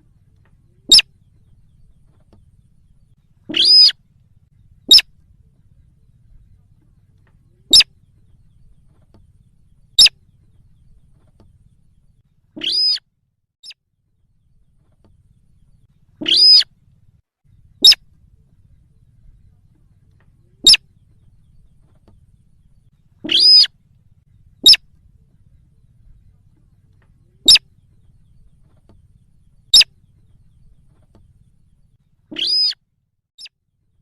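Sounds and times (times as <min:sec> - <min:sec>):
bird calls: 0:00.0 - 0:13.0, 0:14.4 - 0:16.7, 0:17.5 - 0:32.8
faint low hum: 0:00.0 - 0:13.0, 0:14.0 - 0:33.0.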